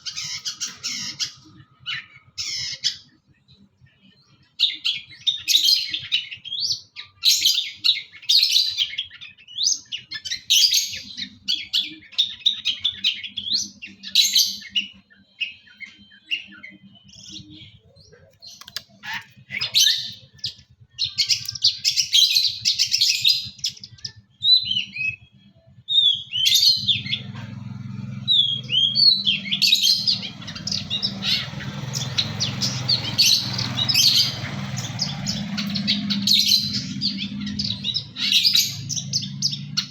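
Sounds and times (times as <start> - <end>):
shrike singing chirps and whistles: 4.5 - 27.4, 28.0 - 39.9.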